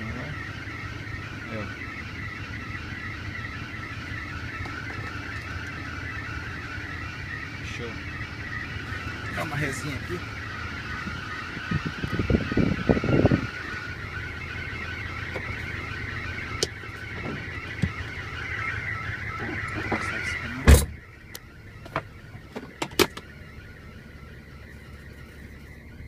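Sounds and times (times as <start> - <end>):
diesel engine idling: 0.0 - 26.0
drive belt squealing: 0.0 - 26.0.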